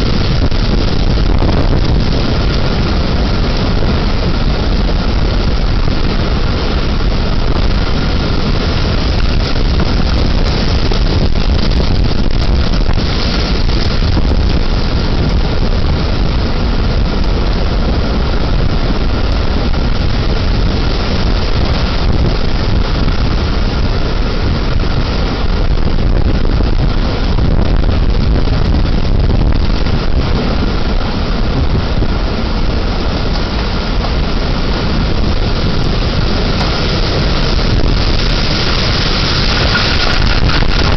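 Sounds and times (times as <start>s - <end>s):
wind and rain rushing: 0.0s - 40.9s.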